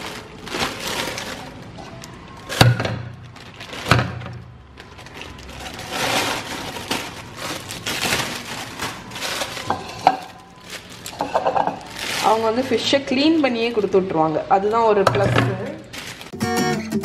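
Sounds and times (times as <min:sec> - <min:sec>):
foil crinkling: 0:00.0 - 0:14.0, 0:15.6 - 0:16.4.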